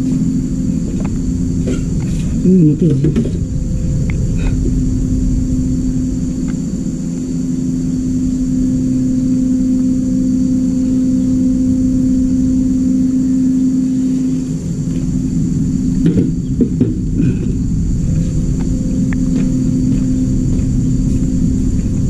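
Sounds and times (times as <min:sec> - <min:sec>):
electric motor hum: 0:00.0 - 0:22.0
low rumble: 0:00.0 - 0:22.0.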